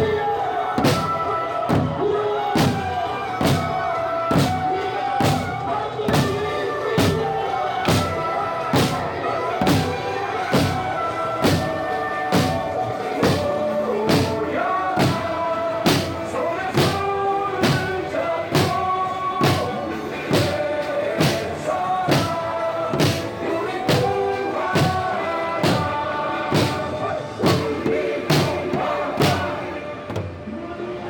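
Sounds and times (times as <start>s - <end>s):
drums in march beat: 0.0s - 30.4s
voices singing along: 0.0s - 31.0s.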